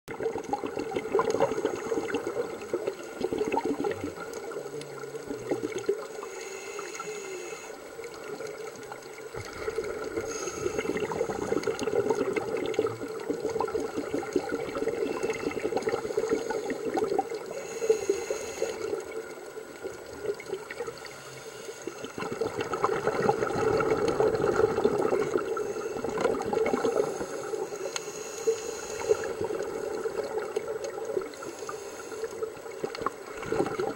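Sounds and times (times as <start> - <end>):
fine underwater crackling: 0.1 - 33.9
underwater water wash: 0.1 - 33.9.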